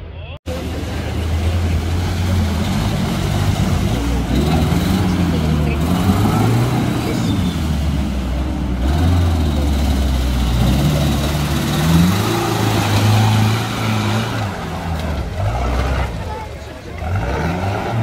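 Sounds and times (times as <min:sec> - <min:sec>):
off-road vehicle engine revving: 0:00.5 - 0:18.0.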